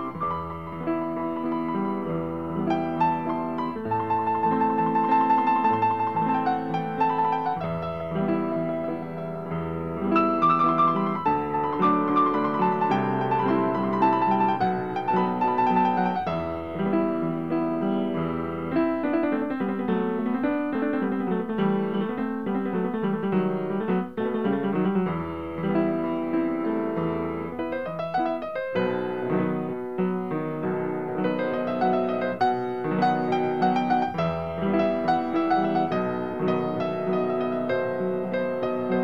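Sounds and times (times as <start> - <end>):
piano melodic runs: 0.0 - 39.0.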